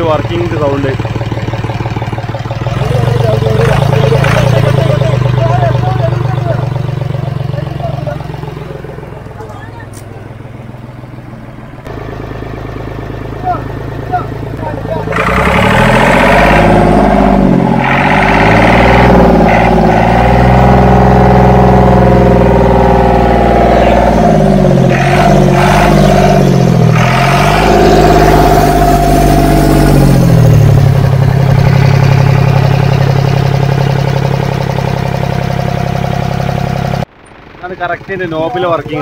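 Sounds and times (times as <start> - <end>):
diesel tractor engine: 0.0 - 39.0.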